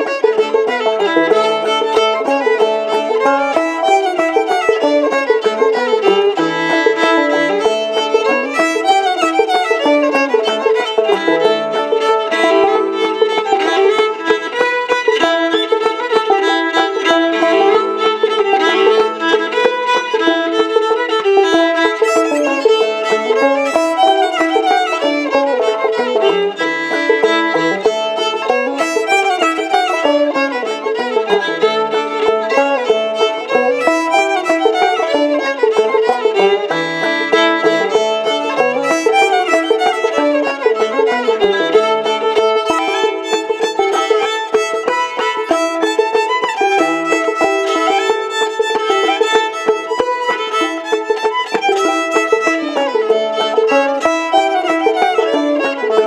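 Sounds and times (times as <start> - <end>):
bowed fiddle melody: 0.0 - 56.0
plucked banjo rhythm: 0.0 - 56.0.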